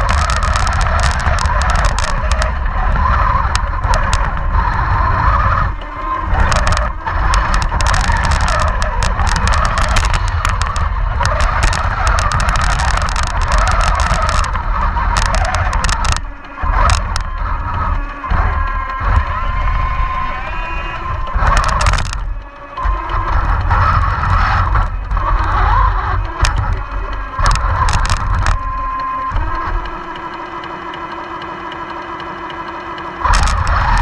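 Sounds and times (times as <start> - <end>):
low rumble: 0.0 - 30.5
model tank motors whirring: 0.0 - 34.0.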